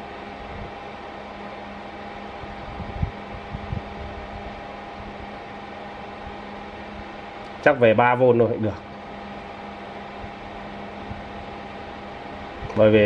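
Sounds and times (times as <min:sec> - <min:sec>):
welding machine fan humming: 0:00.0 - 0:13.0.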